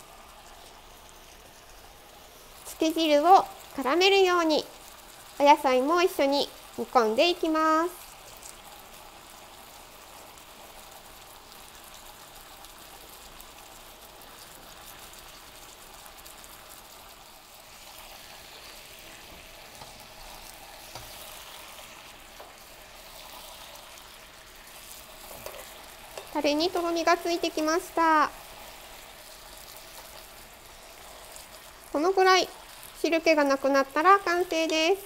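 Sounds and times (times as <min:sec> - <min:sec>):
sauce sizzling in a frying pan: 0:00.0 - 0:35.0.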